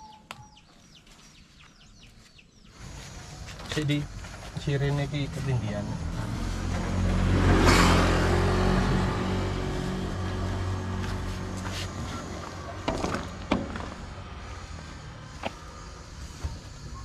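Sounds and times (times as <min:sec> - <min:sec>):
vehicle engine passing: 0:02.7 - 0:17.0.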